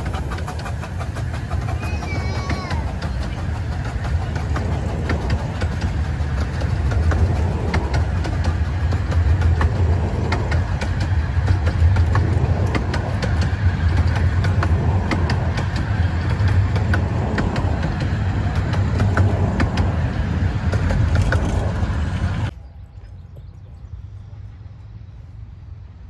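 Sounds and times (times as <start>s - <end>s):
wheels clicking on rails: 0.0s - 25.6s
railway coaches rumbling past: 0.0s - 26.0s.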